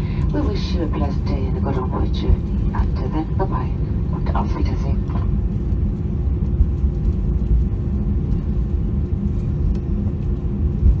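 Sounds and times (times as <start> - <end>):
airplane cabin rumble: 0.0 - 11.0
faint steady hum: 0.0 - 11.0.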